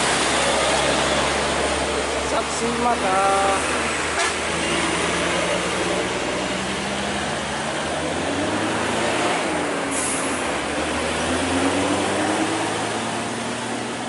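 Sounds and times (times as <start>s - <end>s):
diesel truck engines running: 0.0s - 14.0s.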